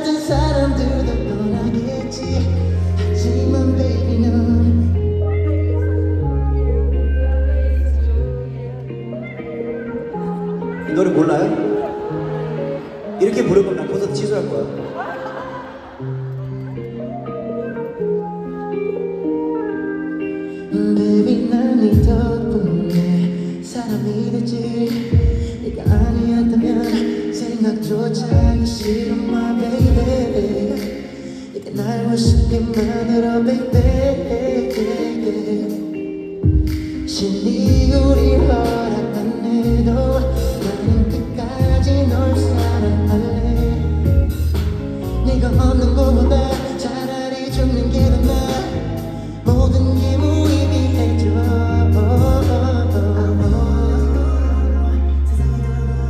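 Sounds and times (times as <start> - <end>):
live pop song with singing: 0.0 - 56.0.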